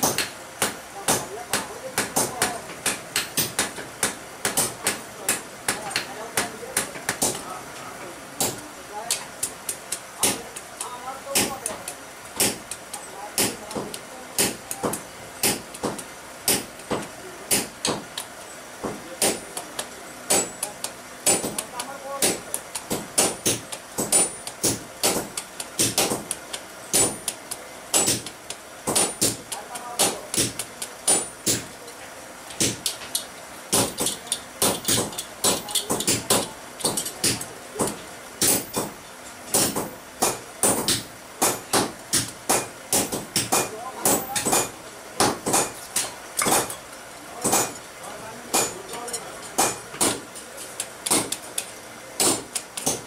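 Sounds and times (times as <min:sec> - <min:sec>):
hammer striking steel on anvil: 0:00.0 - 0:07.5, 0:08.4 - 0:31.7, 0:32.6 - 0:46.8, 0:47.4 - 0:47.8, 0:48.5 - 0:50.4, 0:51.0 - 0:53.0.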